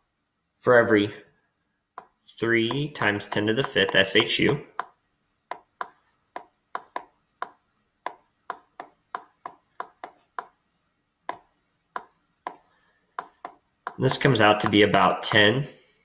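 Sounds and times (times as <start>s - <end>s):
stylus clicking on tablet screen: 1.9s - 15.5s.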